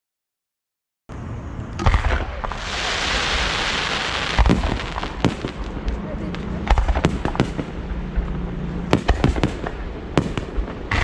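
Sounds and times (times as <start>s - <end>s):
fireworks booming: 1.8s - 11.0s.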